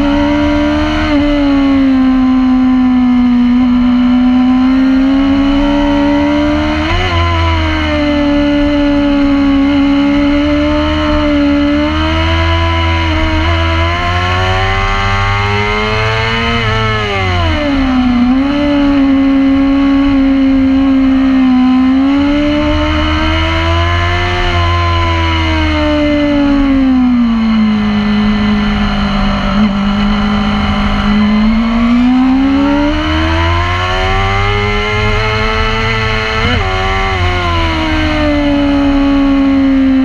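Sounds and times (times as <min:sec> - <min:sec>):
motorcycle engine at high revs: 0:00.0 - 0:40.0.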